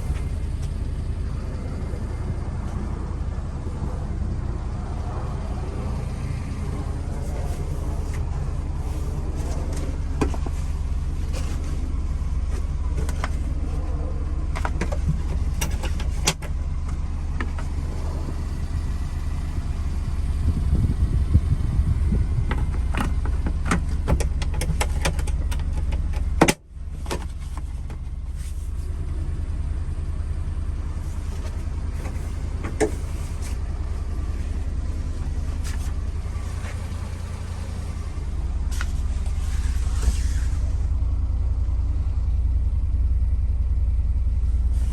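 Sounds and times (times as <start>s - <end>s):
small engine humming: 0.0s - 44.9s.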